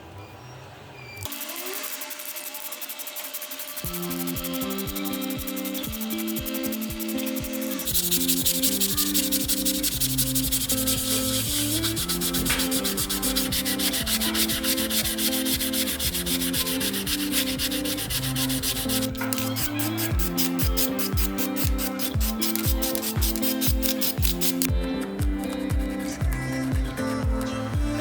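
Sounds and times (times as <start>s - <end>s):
sanding rubbing noise: 1.3s - 24.7s
background music with melody: 3.8s - 28.0s.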